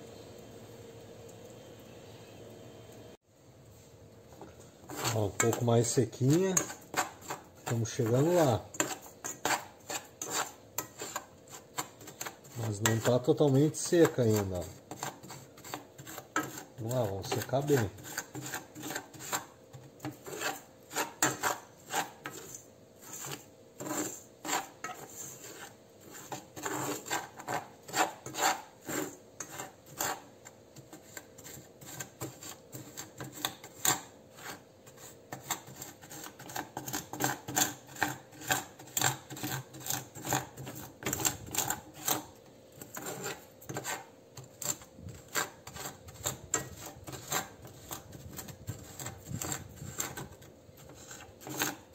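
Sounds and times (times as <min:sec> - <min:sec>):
metal spoon scraping soil in saucepan: 0:03.7 - 0:51.9.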